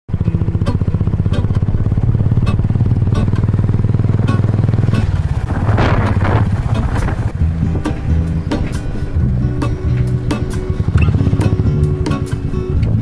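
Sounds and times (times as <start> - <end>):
motorcycle engine running: 0.1 - 13.0
wind noise: 0.2 - 13.0.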